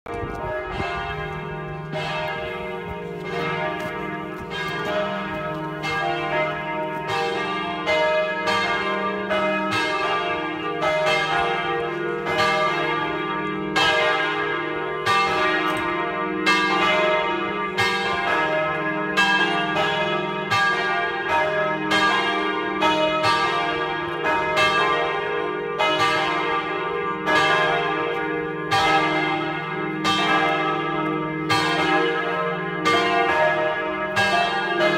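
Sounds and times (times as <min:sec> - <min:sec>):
church bells pealing: 0:00.1 - 0:34.9.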